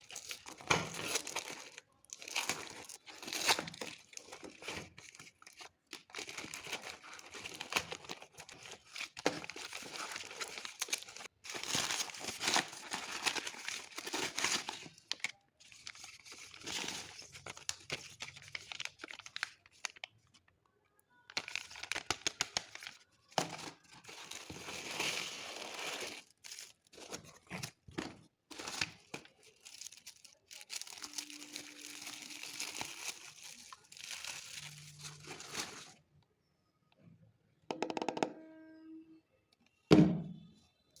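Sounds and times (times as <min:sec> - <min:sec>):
packaging crinkling and tearing: 0:00.0 - 0:20.1, 0:21.3 - 0:27.9, 0:28.5 - 0:36.0.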